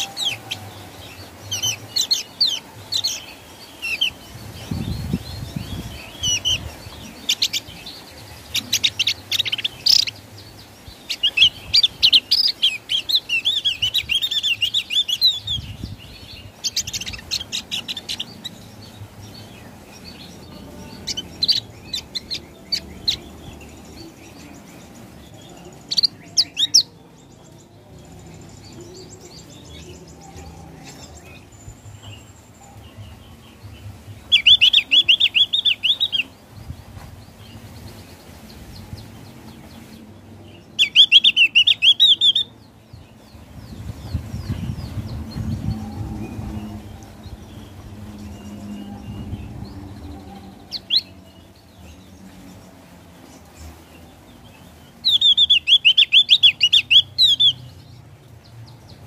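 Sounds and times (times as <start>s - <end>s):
bird singing high chirps: 0.0s - 57.9s.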